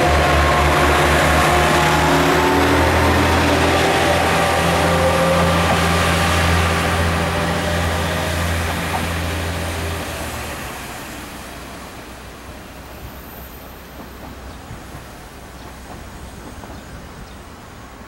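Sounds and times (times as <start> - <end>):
diesel train engine droning: 0.0 - 18.0.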